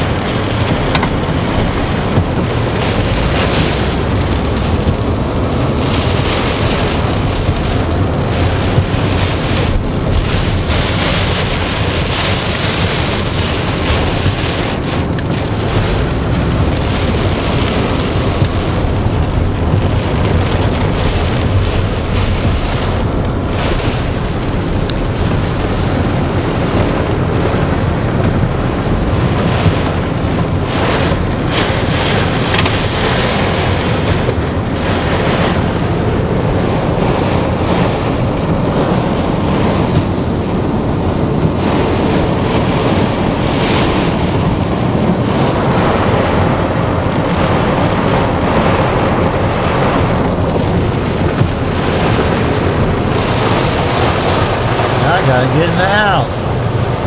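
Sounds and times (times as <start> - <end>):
heavy rain lashing a car: 0.0 - 57.0
high winds rushing: 0.0 - 57.0.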